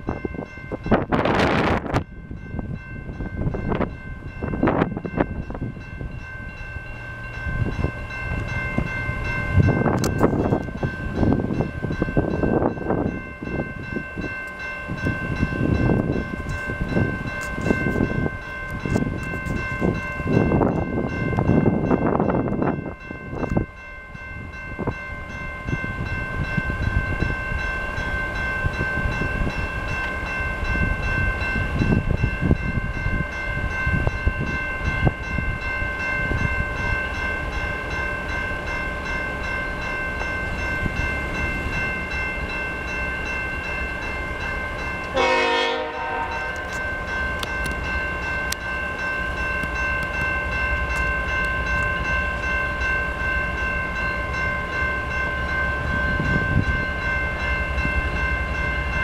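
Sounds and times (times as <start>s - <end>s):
diesel locomotive approaching: 0.0s - 59.0s
wind buffeting microphone: 0.0s - 59.0s.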